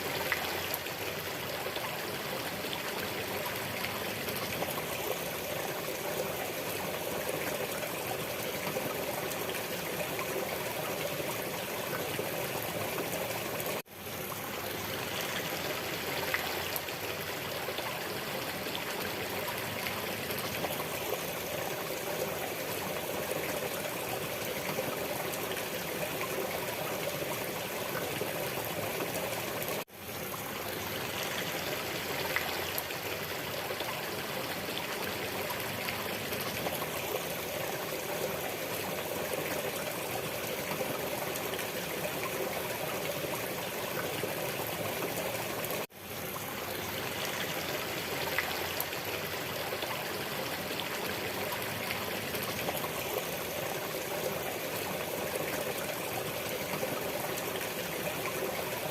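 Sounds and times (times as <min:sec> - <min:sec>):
stream trickling and babbling: 0:00.0 - 0:58.9.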